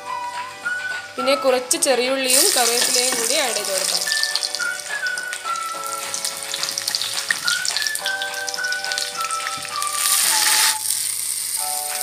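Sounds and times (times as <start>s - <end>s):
slow background music: 0.0s - 12.0s
shallots sizzling in hot oil: 0.1s - 12.0s.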